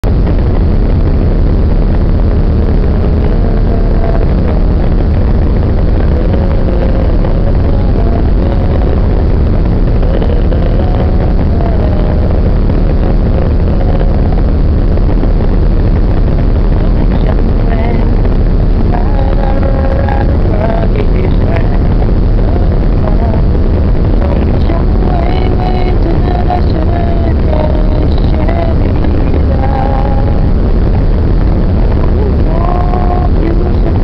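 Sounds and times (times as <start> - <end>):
boat engines rumbling: 0.0 - 34.0.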